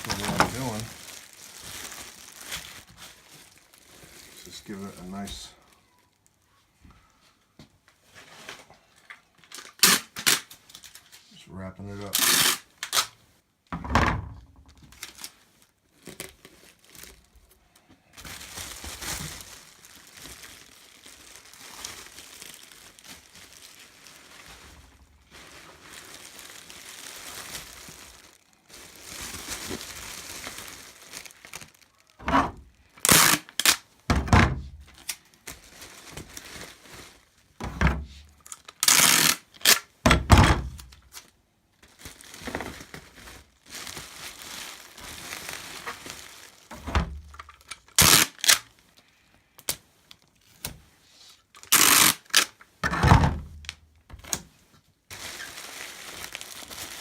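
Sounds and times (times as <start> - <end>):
bubble wrap crinkling: 0.0 - 13.5, 14.6 - 52.8, 53.4 - 57.0.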